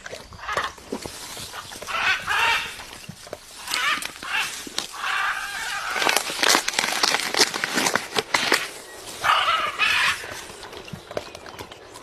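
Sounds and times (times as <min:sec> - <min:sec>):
parrot beak crunching coconut husk: 0:00.0 - 0:10.9.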